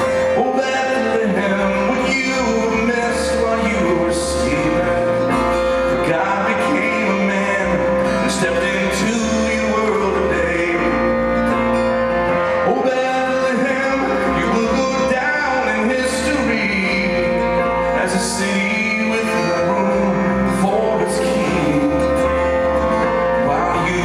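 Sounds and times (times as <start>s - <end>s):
acoustic guitars: 0.0s - 24.0s
keyboard piano: 0.0s - 24.0s
man singing: 0.0s - 24.0s.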